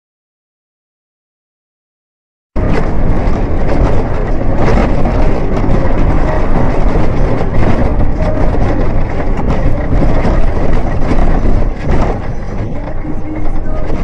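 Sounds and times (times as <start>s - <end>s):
car driving on rough road: 2.6s - 14.0s
knocks from bumps: 2.6s - 14.0s.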